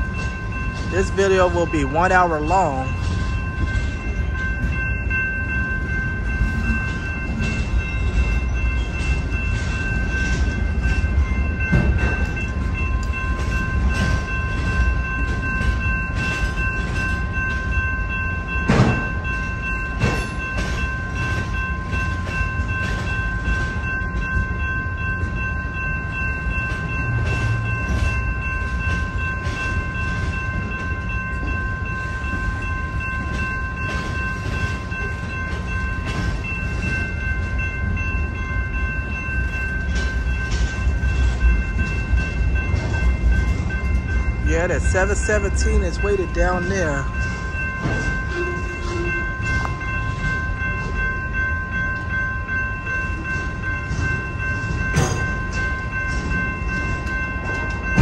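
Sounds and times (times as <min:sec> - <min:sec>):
loud train clanks: 0:00.0 - 0:58.0
train wheels rumbling on rails: 0:00.0 - 0:58.0.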